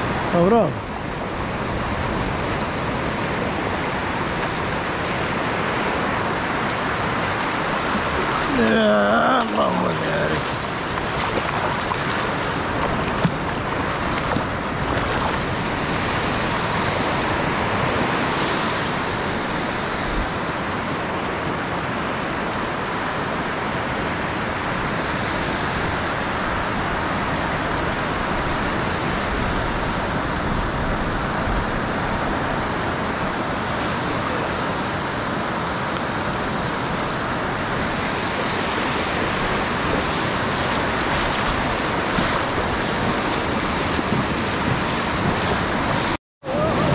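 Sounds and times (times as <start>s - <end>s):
ocean surf washing: 0.0s - 46.9s.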